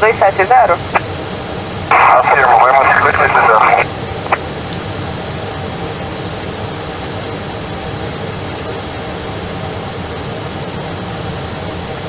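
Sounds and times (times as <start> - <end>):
airliner engines and airflow rushing: 0.0 - 12.0.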